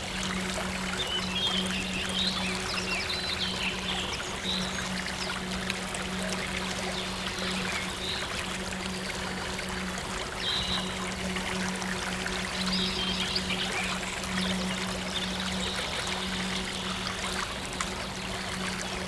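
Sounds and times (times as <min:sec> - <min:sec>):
low synth drone: 0:00.0 - 0:19.0
stream water rushing: 0:00.0 - 0:19.0.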